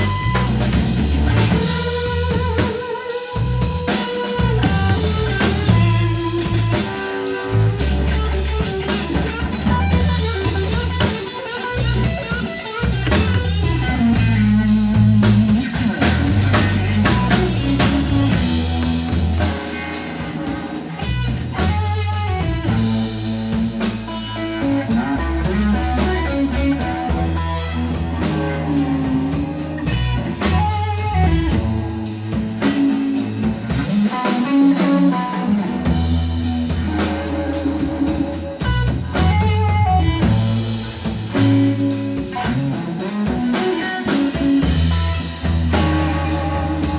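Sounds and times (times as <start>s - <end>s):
drum kit: 0.0s - 46.9s
electric guitar melodic lines: 0.0s - 46.9s
walking bass line: 0.0s - 46.9s.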